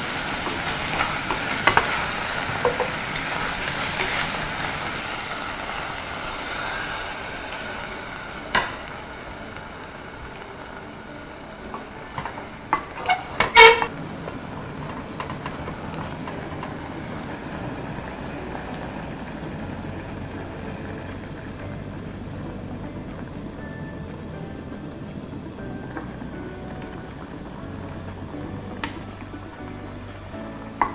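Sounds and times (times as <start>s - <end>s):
water sizzling in hot pot: 0.0s - 30.9s.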